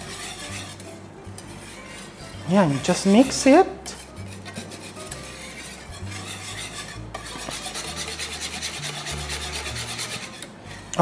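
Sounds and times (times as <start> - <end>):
utensil stirring thick sauce: 0.0 - 11.0.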